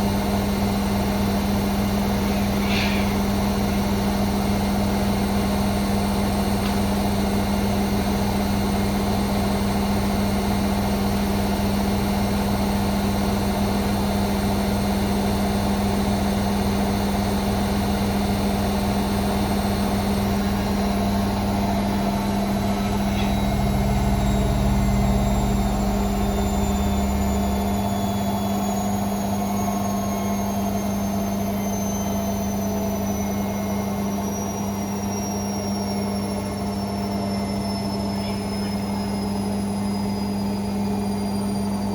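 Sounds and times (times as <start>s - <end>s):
high motor whine: 0.0s - 41.9s
washing machine spinning: 0.0s - 41.9s.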